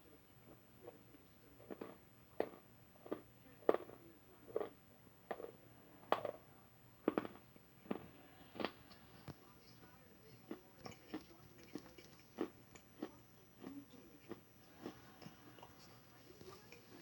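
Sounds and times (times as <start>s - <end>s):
crunchy chewing: 0.5s - 5.6s, 7.0s - 17.0s.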